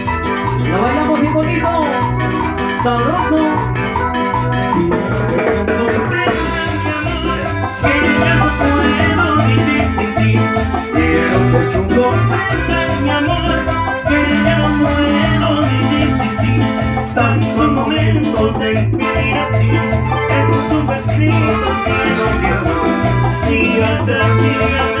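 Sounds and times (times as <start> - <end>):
latin dance band playing: 0.0 - 25.0.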